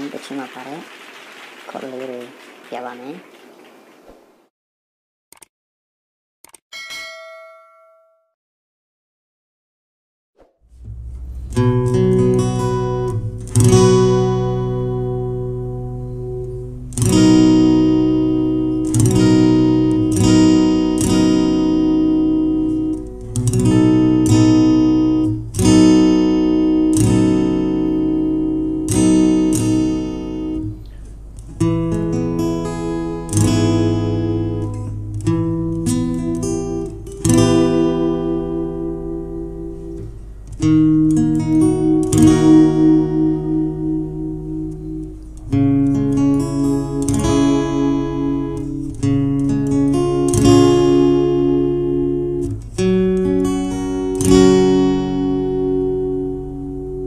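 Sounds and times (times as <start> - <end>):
acoustic guitar strumming chords: 10.6 - 57.0.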